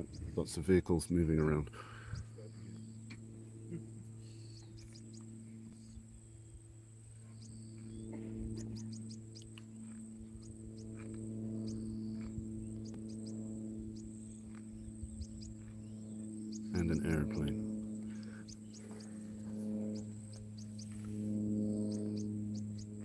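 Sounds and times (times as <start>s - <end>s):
vehicle engines running: 0.0s - 23.0s.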